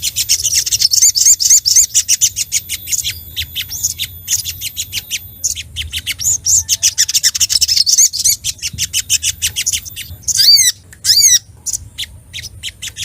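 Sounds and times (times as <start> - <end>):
bird calling with sharp high chips: 0.0 - 13.0.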